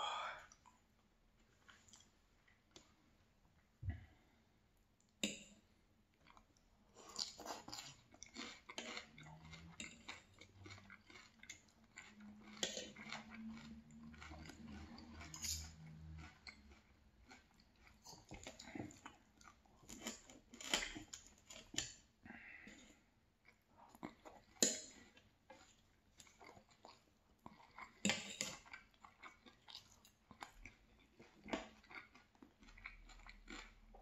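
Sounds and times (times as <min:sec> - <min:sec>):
person chewing and crunching food: 0:05.0 - 0:34.0.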